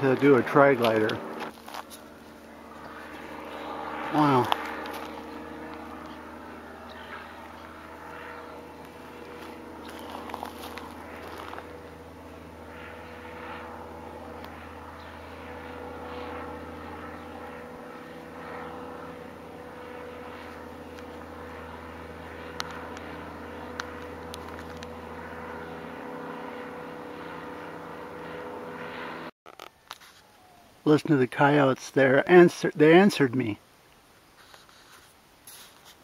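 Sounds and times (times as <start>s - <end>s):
ultralight engine and propeller drone: 0.0s - 36.0s.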